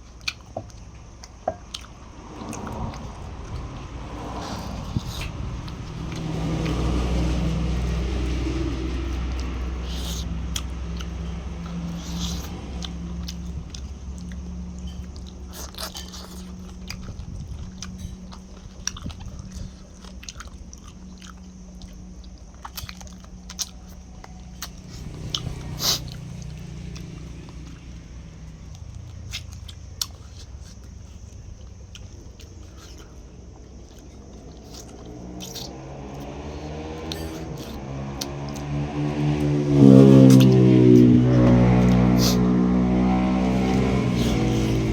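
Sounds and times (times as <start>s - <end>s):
low vehicle rumble: 0.0s - 44.9s
person chewing and crunching: 0.0s - 44.9s.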